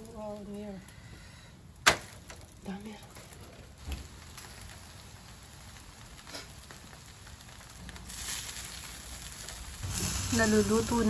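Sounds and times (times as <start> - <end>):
meat sizzling over charcoal: 0.0 - 11.0.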